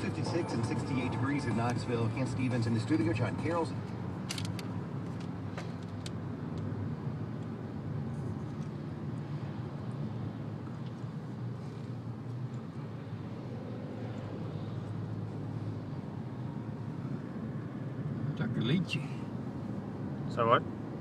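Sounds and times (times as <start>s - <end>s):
car engine and tyre hum: 0.0s - 21.0s.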